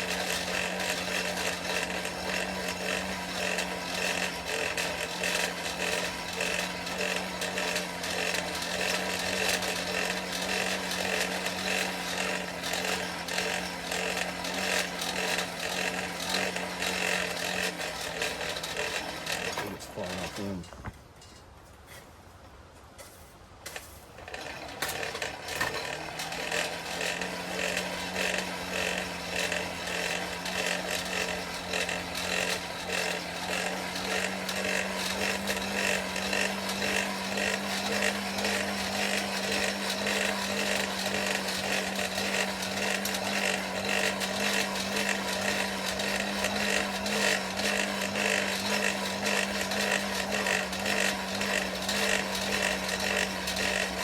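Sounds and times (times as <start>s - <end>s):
blower motor hum: 0.0s - 21.0s, 23.7s - 54.0s.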